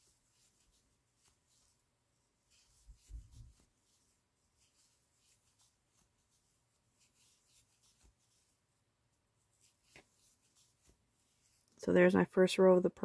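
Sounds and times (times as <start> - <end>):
crochet hook scratching yarn: 0.0 - 8.6, 9.5 - 11.8.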